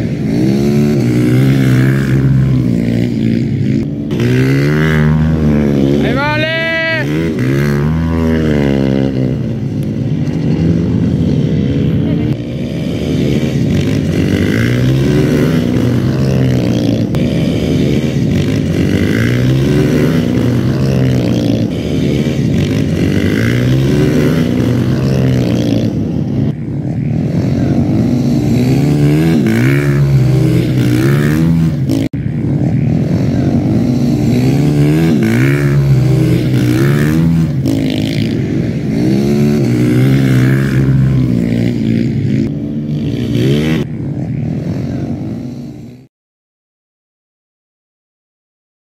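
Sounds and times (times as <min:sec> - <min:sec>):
motorcycle engines revving: 0:00.0 - 0:46.1.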